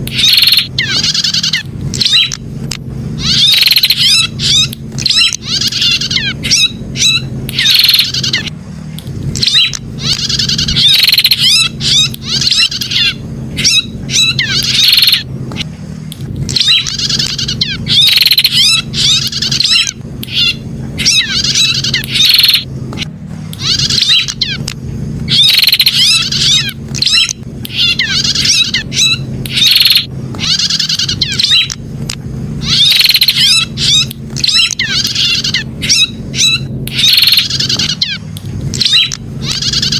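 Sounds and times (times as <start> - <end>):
bird chirping: 0.0 - 2.4, 3.2 - 8.5, 9.3 - 15.7, 16.5 - 22.7, 23.5 - 31.8, 32.6 - 39.9
low hum: 0.0 - 39.9.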